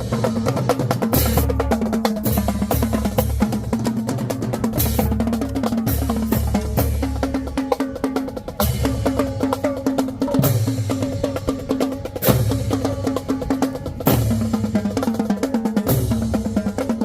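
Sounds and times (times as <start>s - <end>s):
bass drums: 0.0s - 17.0s.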